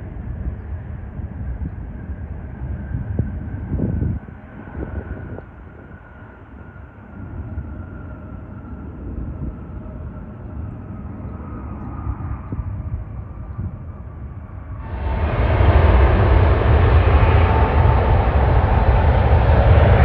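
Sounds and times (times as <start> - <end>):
jet engines rumbling: 0.0 - 20.0
faint whine gliding down: 1.6 - 20.0.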